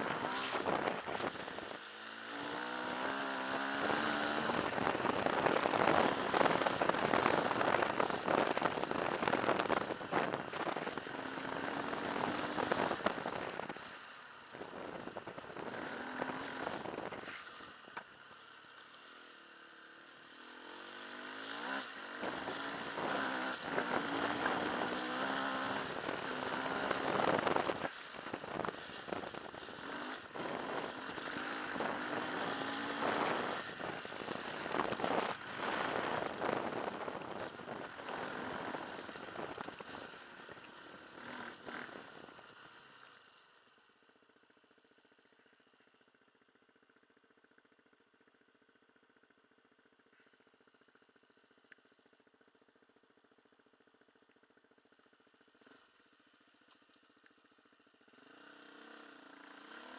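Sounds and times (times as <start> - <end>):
motorcycle engine revving: 0.0 - 43.2, 52.9 - 59.9.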